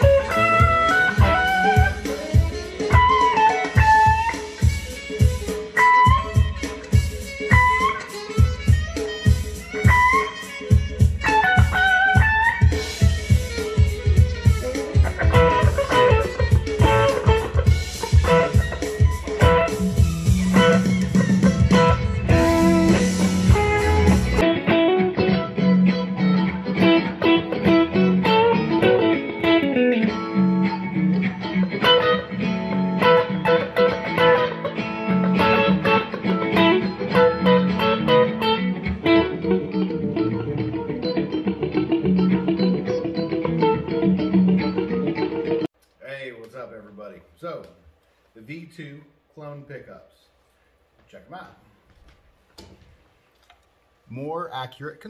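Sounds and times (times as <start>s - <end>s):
electric guitar notes and chords: 0.0s - 45.7s.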